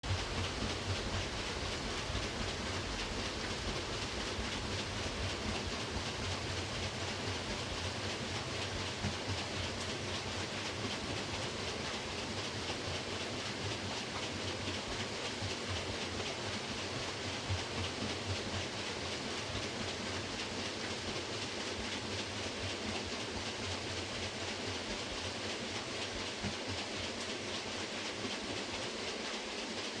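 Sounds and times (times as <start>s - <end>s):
water wheel turning: 0.0s - 30.0s.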